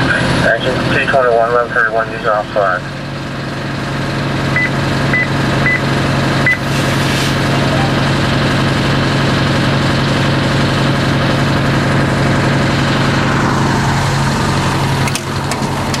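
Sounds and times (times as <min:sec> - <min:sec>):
fire engine idling: 0:00.0 - 0:16.0.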